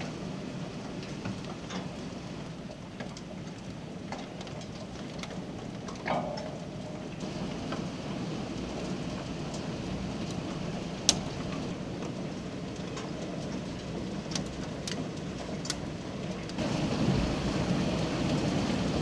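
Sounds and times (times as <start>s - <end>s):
hail and rain hissing: 0.0s - 19.0s
hailstones striking close by: 0.0s - 19.0s.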